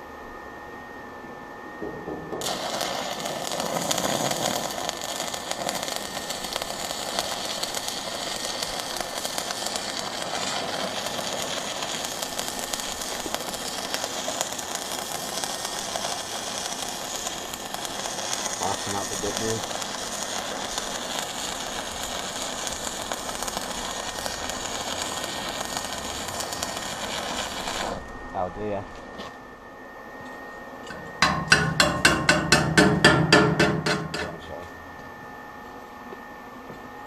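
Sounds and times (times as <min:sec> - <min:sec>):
welding arc striking: 0:01.8 - 0:28.8, 0:30.9 - 0:34.6
crackling welding sizzle: 0:01.8 - 0:29.4, 0:30.2 - 0:36.9.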